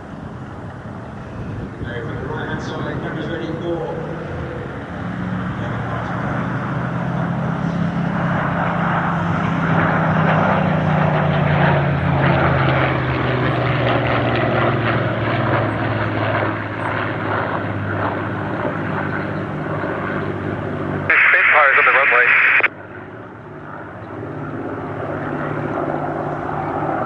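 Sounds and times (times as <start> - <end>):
propeller plane engines passing: 0.0 - 27.0.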